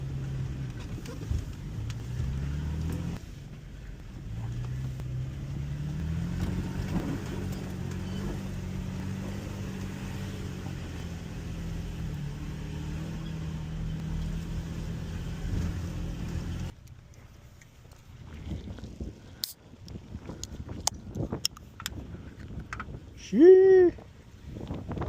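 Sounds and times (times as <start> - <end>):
off-road vehicle engine running: 0.0 - 23.3.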